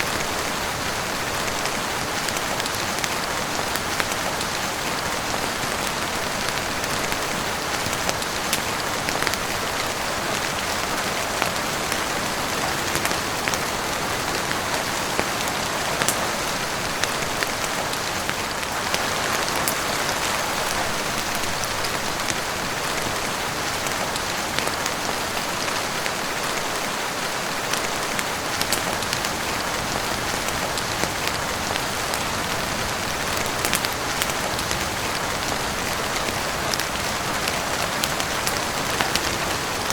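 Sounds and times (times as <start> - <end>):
heavy rain on roof and windows: 0.0 - 39.9.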